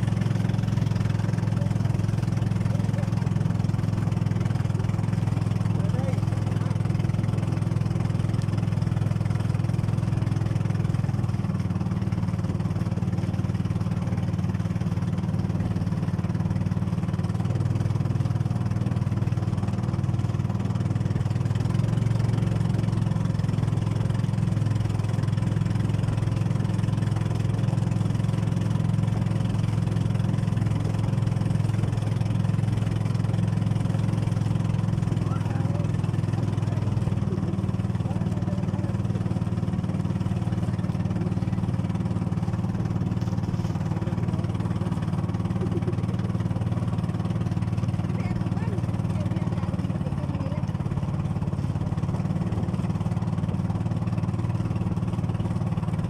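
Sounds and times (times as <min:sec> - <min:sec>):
boat engine droning: 0:00.0 - 0:56.0
water rushing along hull: 0:00.0 - 0:56.0.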